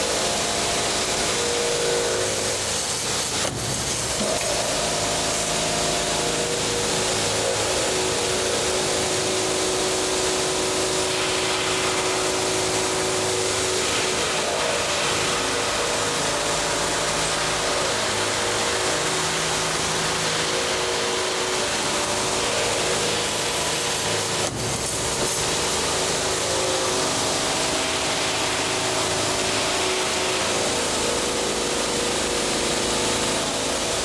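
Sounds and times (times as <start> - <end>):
machine whirring: 0.0 - 34.0.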